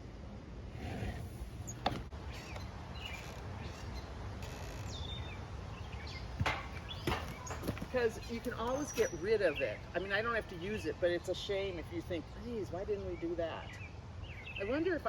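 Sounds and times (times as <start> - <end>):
low background noise: 0.0 - 15.0
birds chirping: 0.8 - 15.0.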